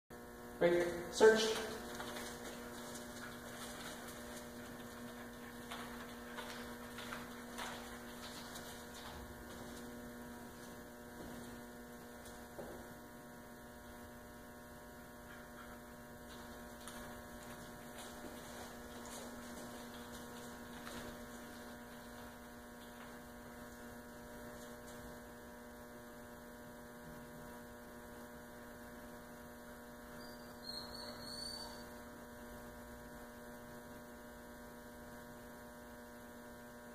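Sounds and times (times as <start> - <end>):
faint electrical mains hum: 0.2 - 36.9.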